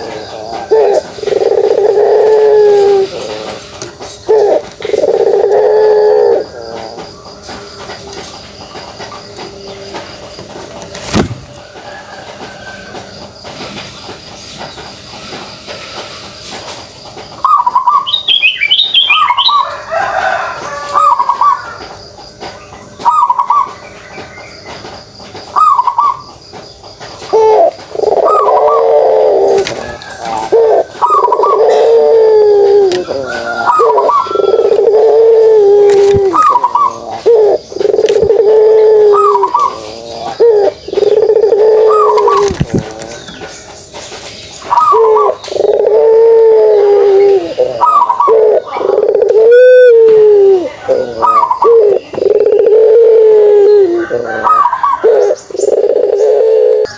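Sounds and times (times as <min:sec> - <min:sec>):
dove cooing: 0:00.0 - 0:12.7, 0:19.0 - 0:23.8, 0:25.5 - 0:26.3, 0:27.2 - 0:43.5, 0:44.6 - 0:56.9.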